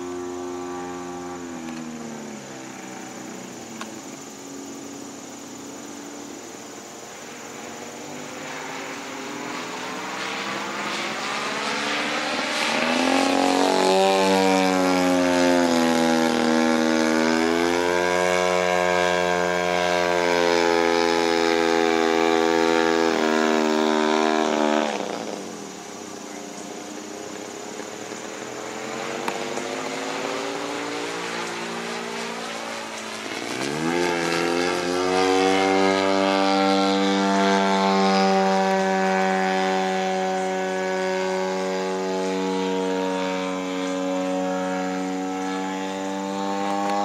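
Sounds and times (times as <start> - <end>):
model airplane propeller engine: 0.0 - 47.0.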